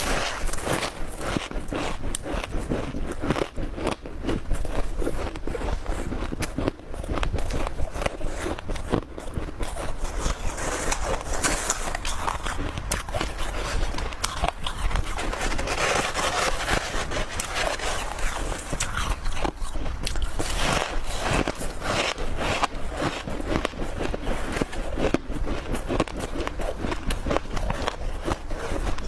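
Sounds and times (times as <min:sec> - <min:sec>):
ice crunching while chewed: 0:00.0 - 0:29.0.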